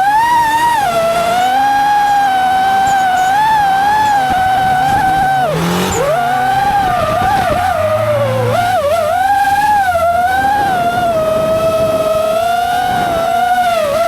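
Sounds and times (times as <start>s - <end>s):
car engine: 0.0s - 14.0s
drone propellers whining: 0.0s - 14.0s.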